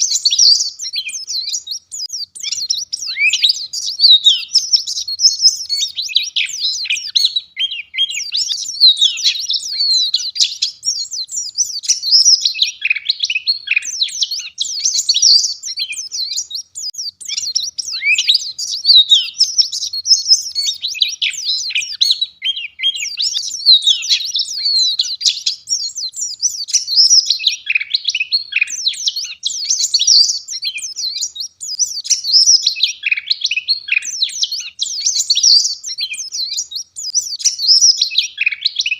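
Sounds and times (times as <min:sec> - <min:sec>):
bird twittering chirps: 0:00.0 - 0:38.9.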